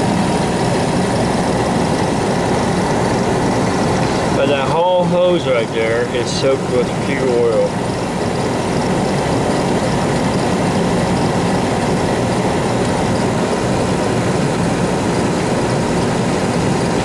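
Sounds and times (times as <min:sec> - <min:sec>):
furnace burner low rumble: 0:00.0 - 0:17.0.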